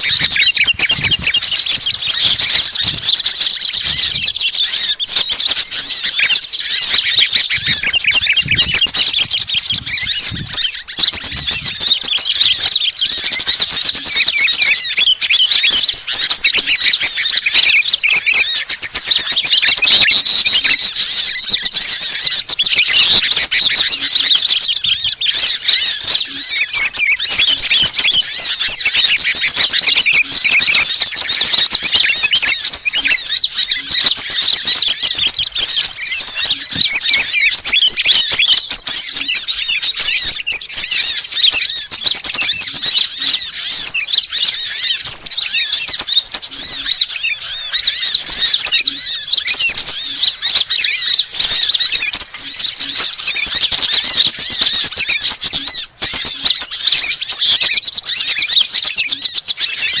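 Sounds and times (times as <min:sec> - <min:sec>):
songbirds chirping and squeaking: 0:00.0 - 1:00.0.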